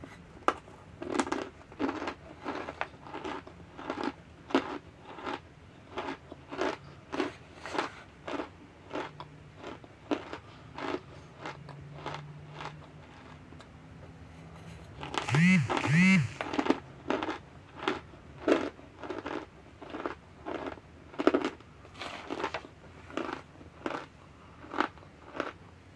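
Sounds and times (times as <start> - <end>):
crisp chewing crunches: 0.5 - 13.7, 15.0 - 25.6.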